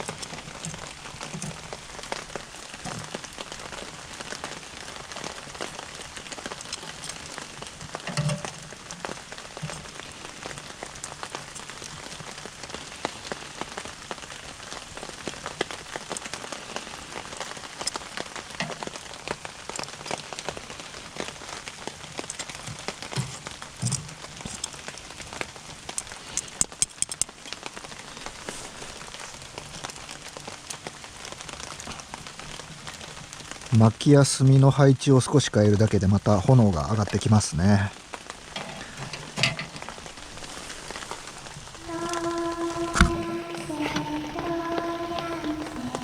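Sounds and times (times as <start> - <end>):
fire crackling in a stove: 0.0 - 46.0.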